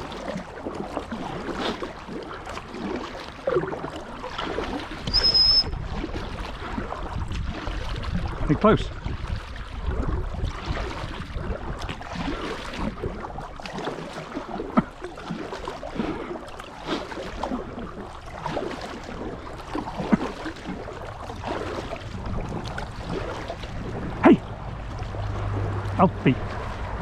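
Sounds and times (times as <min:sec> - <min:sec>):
kayak paddle splashing water: 0:00.0 - 0:27.0.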